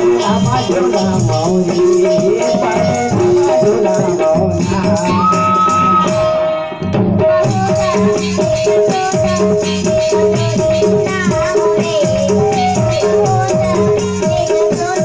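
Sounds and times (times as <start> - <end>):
person singing: 0.0 - 15.0
tabla drumming: 0.0 - 15.0.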